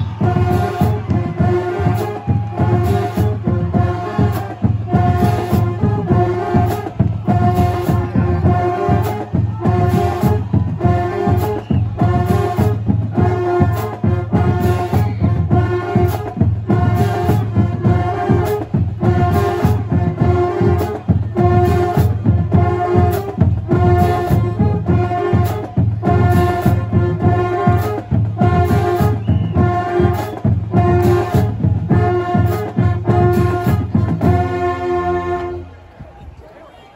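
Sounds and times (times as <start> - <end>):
steady drumbeat: 0.0 - 35.2
marching band brass chords: 0.0 - 36.9.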